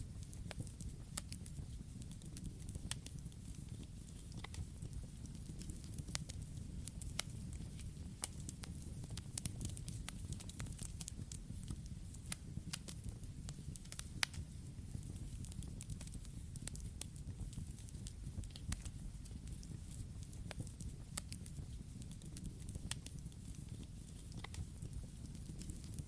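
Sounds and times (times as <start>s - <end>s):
burning wood crackling and popping: 0.0s - 26.0s
campfire flame rumble: 0.0s - 26.0s.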